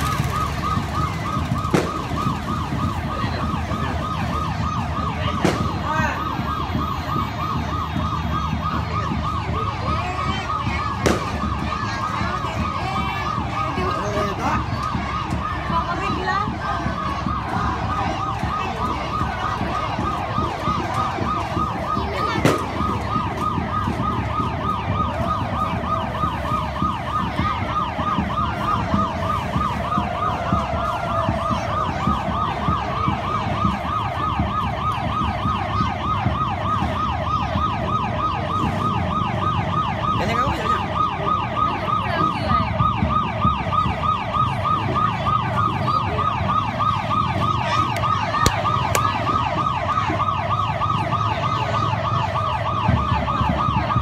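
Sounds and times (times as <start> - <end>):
electronic siren yelping: 0.0 - 54.0.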